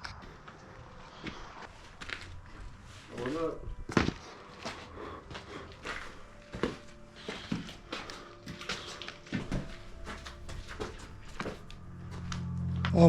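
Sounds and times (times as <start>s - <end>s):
footsteps of people walking: 0.0s - 13.0s.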